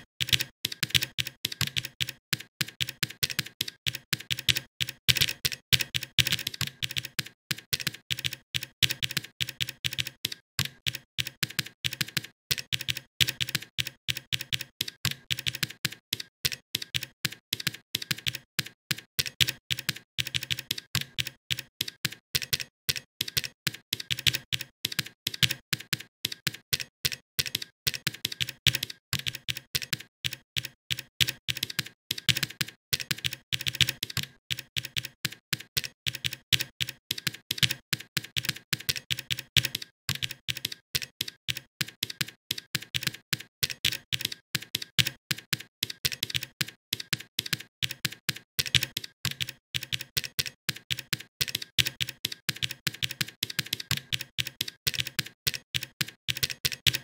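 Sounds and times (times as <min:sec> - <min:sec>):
computer keyboard typing: 0:00.0 - 0:57.0.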